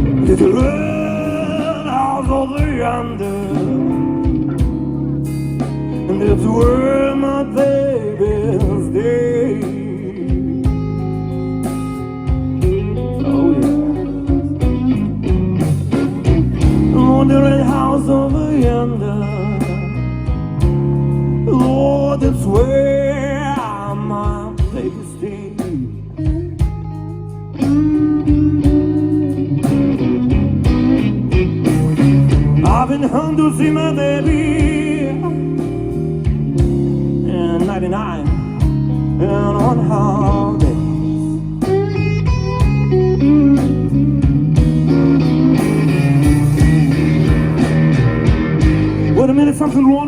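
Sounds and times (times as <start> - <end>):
bass guitar: 0.0 - 50.0
blues-rock band playing: 0.0 - 50.0
drums keeping a steady beat: 0.0 - 50.0
electric guitar with bent notes: 0.0 - 50.0.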